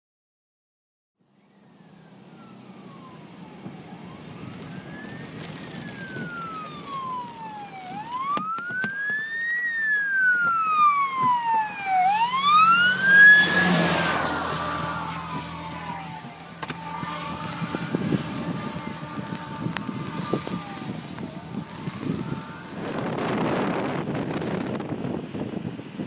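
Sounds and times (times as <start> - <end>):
fire engine siren wailing: 1.2 - 25.0
rush of passing truck: 1.5 - 26.0.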